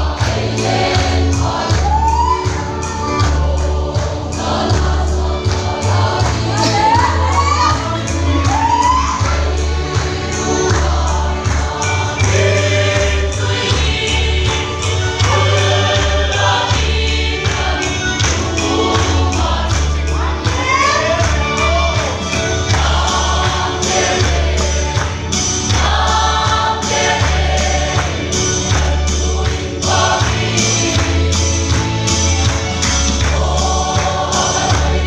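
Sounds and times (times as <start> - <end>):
barrel drum beat: 0.0 - 35.0
group singing in chorus: 0.0 - 35.0.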